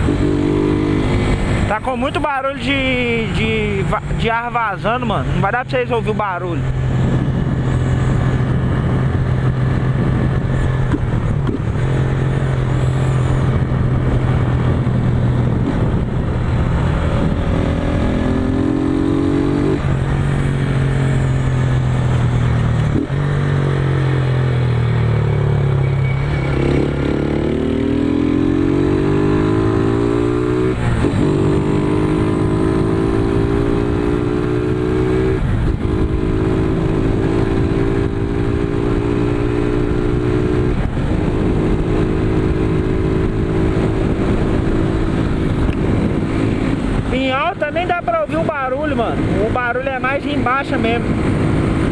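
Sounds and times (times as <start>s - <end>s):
motorcycle engine accelerating: 0.0s - 5.4s, 6.4s - 51.9s.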